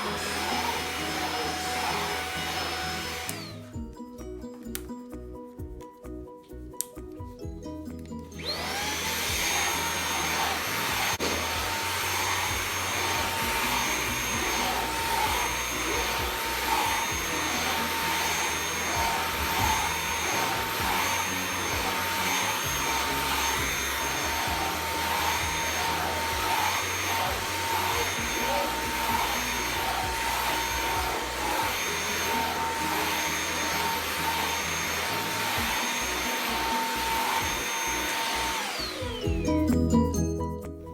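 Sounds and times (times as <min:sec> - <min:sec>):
stick vacuum motor whine: 0:00.0 - 0:03.8, 0:08.4 - 0:39.6.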